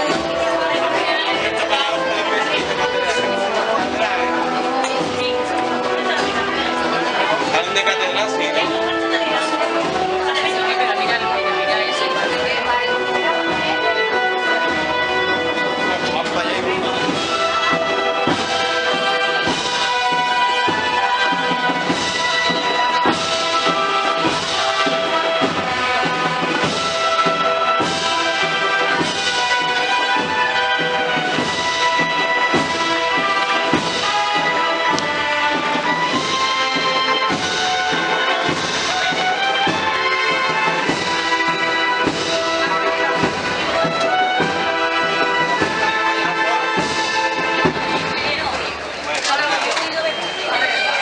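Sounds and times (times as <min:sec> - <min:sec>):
drum strikes: 0:00.0 - 0:50.7
brass band playing a march: 0:00.0 - 0:51.0.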